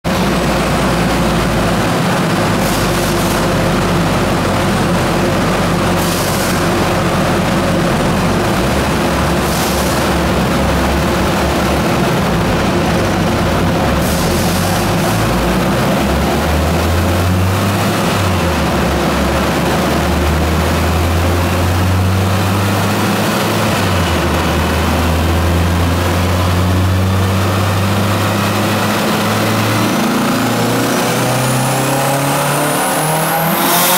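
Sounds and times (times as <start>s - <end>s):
turbocharged car engine revving: 0.0s - 33.9s.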